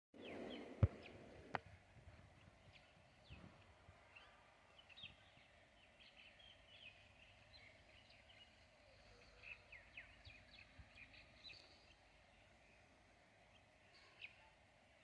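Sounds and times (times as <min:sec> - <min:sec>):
faint birds chirping: 0:00.2 - 0:15.0.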